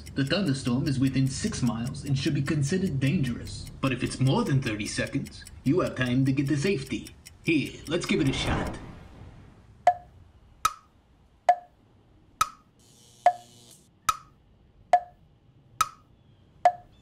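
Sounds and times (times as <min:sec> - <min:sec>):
clock ticking: 0:00.0 - 0:08.7, 0:09.9 - 0:11.8, 0:12.4 - 0:17.0.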